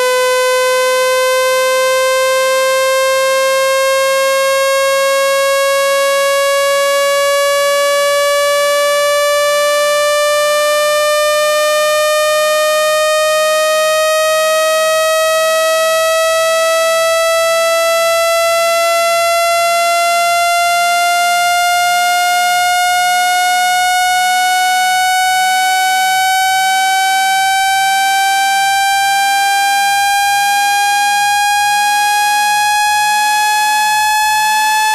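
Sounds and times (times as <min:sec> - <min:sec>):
rising buzzy electronic tone: 0:00.0 - 0:34.9.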